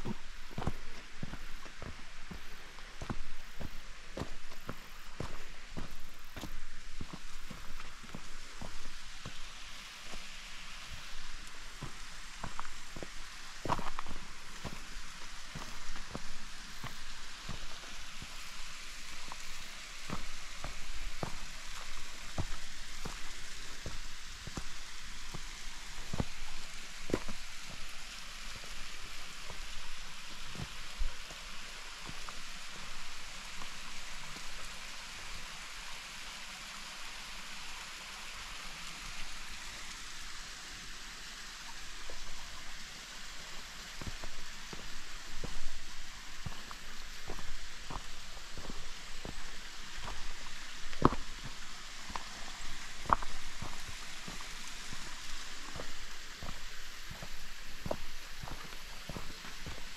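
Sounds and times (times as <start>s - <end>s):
footsteps on dirt trail: 0.0s - 34.7s, 43.2s - 59.9s
steady rushing hiss: 0.0s - 59.9s.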